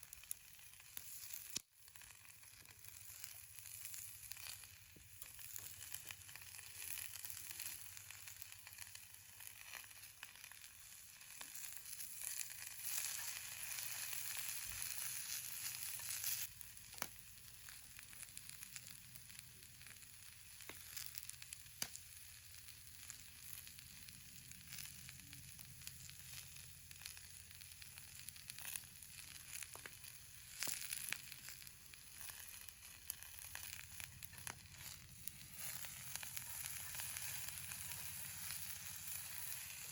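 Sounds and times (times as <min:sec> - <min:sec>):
food frying sizzle: 0:00.0 - 0:39.9
sharp pops of frying food: 0:00.0 - 0:39.9.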